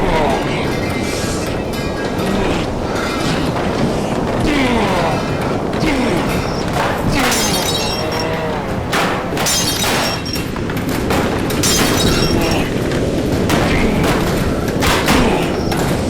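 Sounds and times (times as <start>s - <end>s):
crashing shattering surges: 0.0s - 16.0s.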